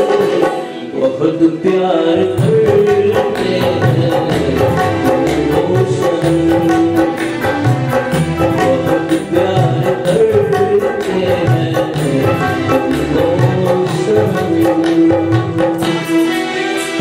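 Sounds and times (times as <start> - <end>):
sustained melody line: 0.0 - 17.0.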